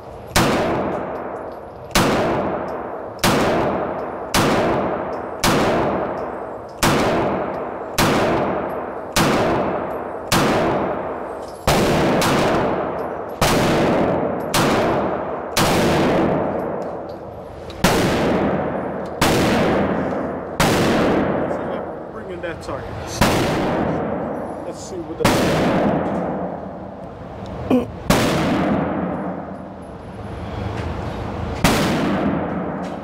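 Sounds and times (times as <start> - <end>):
pistol shots echoing indoors: 0.3 - 17.2, 17.8 - 22.0, 23.2 - 24.4, 25.2 - 27.0, 28.0 - 29.7, 31.6 - 33.0.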